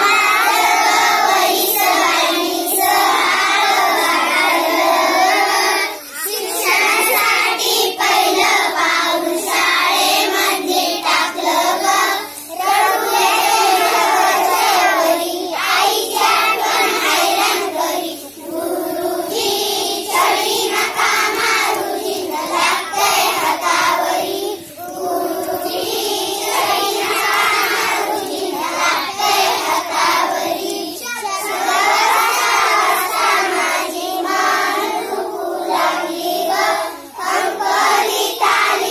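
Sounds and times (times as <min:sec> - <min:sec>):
children singing together: 0:00.0 - 0:38.9.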